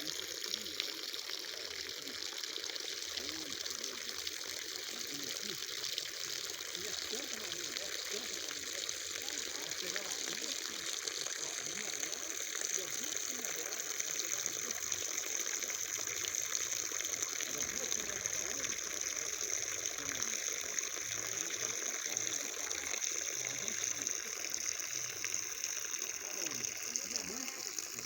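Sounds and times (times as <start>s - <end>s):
rushing splashing water: 0.0s - 28.0s.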